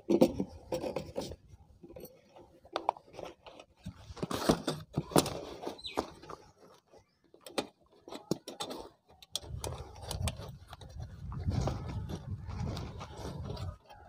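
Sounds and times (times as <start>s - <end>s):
vinyl rustling and scraping: 2.1s - 14.0s.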